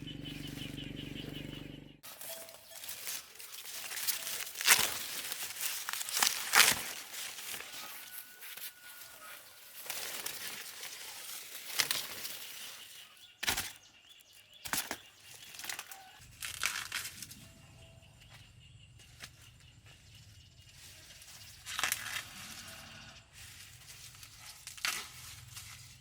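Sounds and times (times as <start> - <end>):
dry corn leaves rustling: 0.3 - 1.4, 2.0 - 17.5, 19.0 - 26.0.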